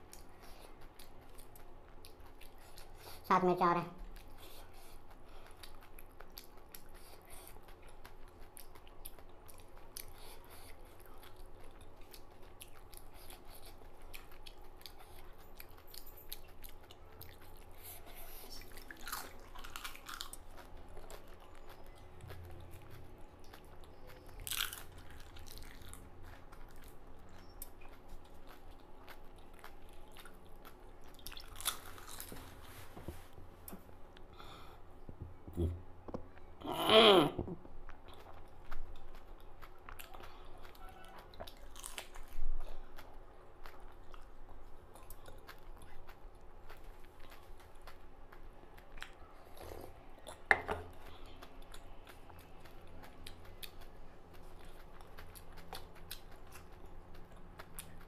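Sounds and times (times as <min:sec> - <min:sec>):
crunchy wet chewing: 0:00.0 - 0:03.3, 0:04.0 - 0:32.8, 0:37.8 - 0:58.0.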